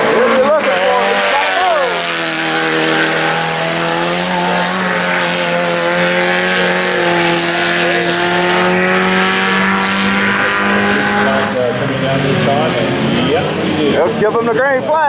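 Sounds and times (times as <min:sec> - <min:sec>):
race car engines running: 0:00.0 - 0:15.0.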